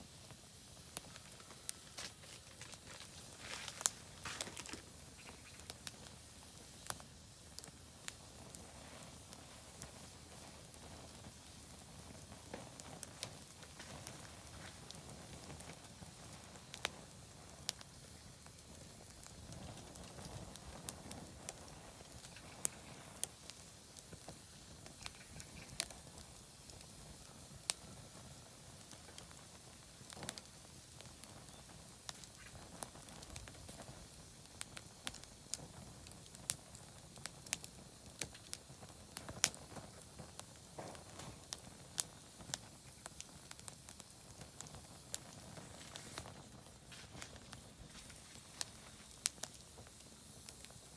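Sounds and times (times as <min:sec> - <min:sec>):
campfire crackling and popping: 0:00.0 - 0:50.9
low hiss of fire: 0:00.0 - 0:50.9.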